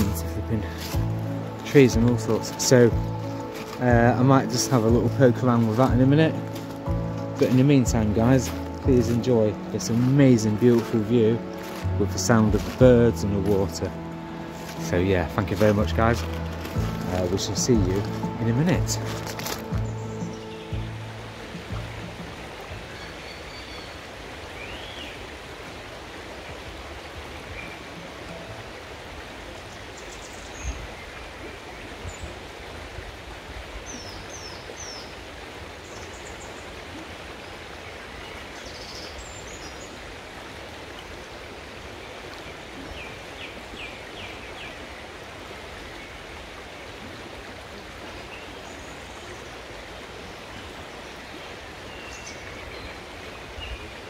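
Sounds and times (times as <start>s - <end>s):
songbirds chirping: 0.0s - 32.7s, 33.8s - 54.0s
river running over pebbles: 0.0s - 54.0s.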